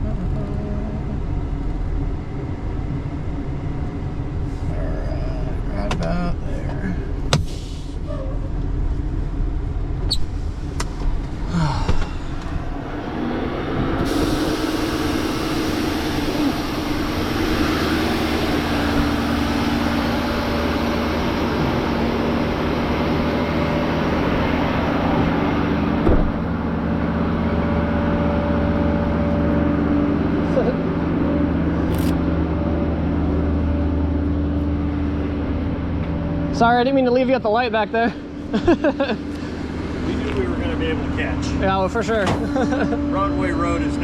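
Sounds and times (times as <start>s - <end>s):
tow truck engine running: 0.0s - 44.0s.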